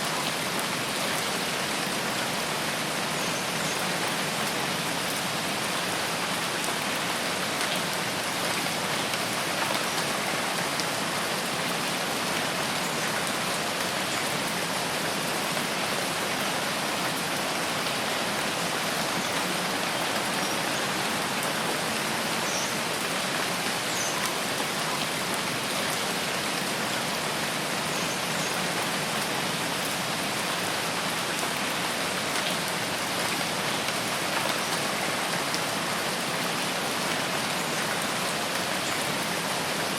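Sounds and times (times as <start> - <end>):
rain hitting leaves and ground: 0.0 - 39.9.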